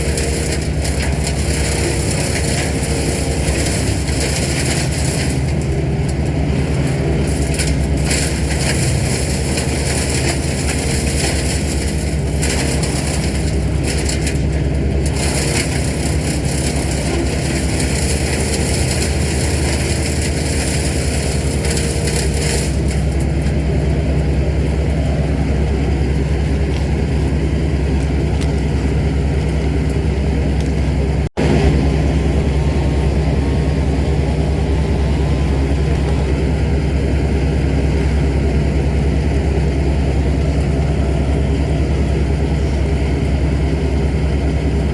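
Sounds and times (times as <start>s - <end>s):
large machinery engine running: 0.0s - 44.9s.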